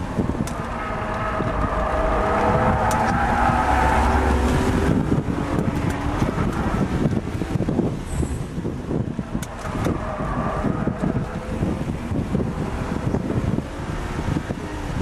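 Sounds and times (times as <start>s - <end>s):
car engine revving: 0.0s - 15.0s
road and wind noise: 0.0s - 15.0s.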